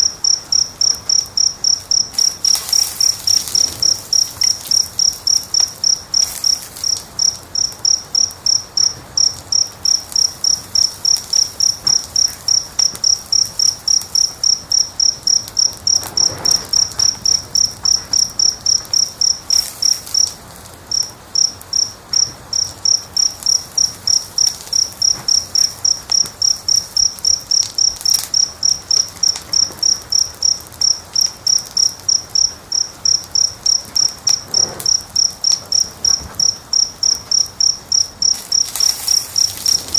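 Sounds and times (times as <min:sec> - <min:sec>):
cricket chirping: 0:00.0 - 0:39.9
wood fire crackling: 0:00.0 - 0:39.9.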